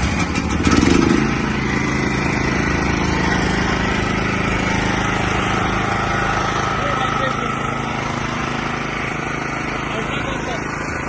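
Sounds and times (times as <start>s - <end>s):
portable generator engine running: 0.0s - 11.0s.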